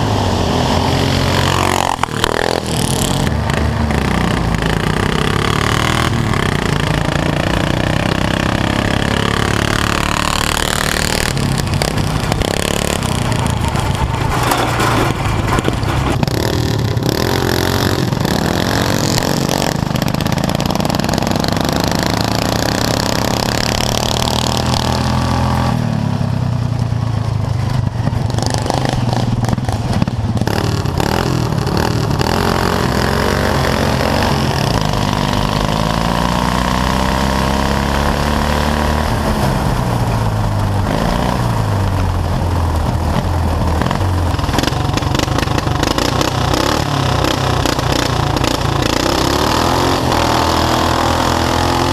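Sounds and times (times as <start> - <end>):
lawn mower engines revving: 0.0 - 51.9.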